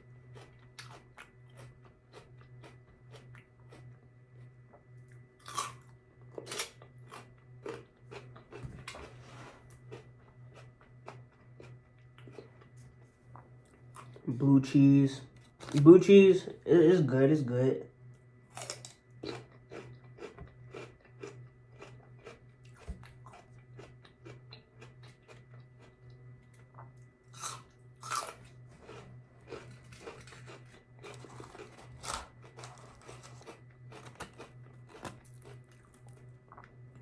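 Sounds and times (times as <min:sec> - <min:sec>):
crunching celery: 0:00.1 - 0:13.1, 0:18.5 - 0:37.0.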